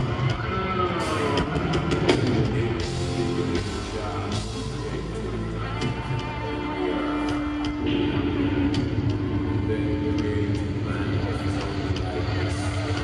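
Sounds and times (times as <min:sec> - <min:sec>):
loud live music: 0:00.0 - 0:13.0.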